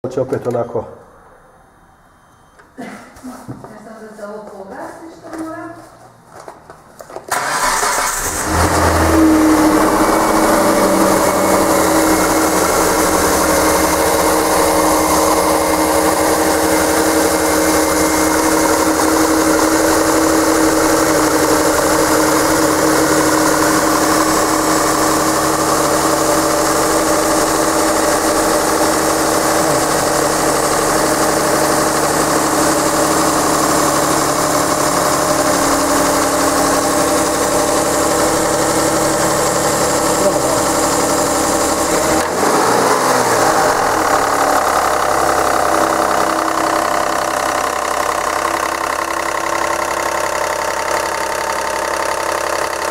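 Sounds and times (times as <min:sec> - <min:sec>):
car engine starting and idling: 0:07.2 - 0:52.9.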